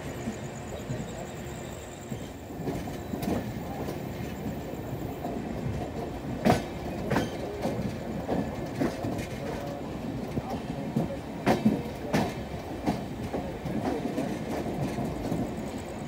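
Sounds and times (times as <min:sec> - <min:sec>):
train wheels clattering over rails: 0:00.0 - 0:16.0.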